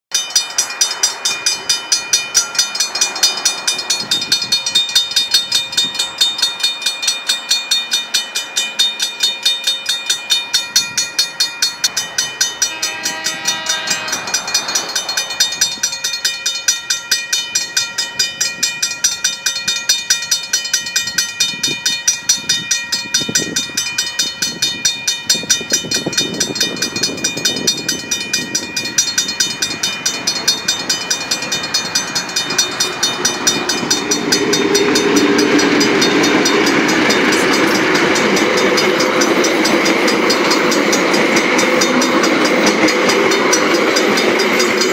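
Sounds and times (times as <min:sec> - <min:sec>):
level crossing bells ringing: 0:00.1 - 0:44.9
train rumbling over rails: 0:00.1 - 0:44.9.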